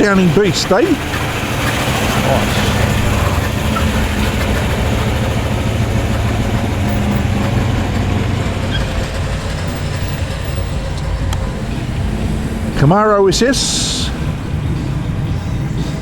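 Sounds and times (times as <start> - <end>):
car engine running low speed: 0.0 - 16.0.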